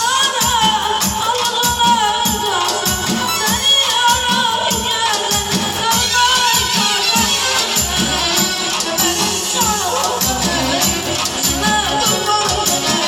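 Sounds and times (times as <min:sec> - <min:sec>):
boy singing into a microphone: 0:00.0 - 0:13.0
drum and shaker beat: 0:00.0 - 0:13.0
electronic keyboard accompaniment: 0:00.0 - 0:13.0.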